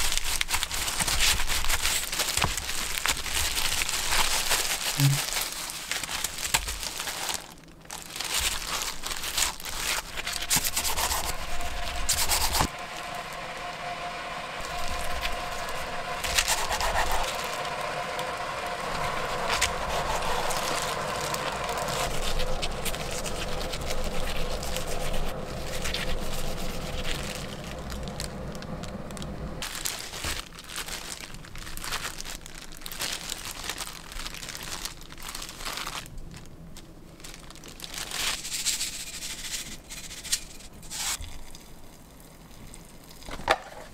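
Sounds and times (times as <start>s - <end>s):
dried seaweed crackling: 0.0s - 43.9s
plastic gloves rustling: 0.0s - 43.9s.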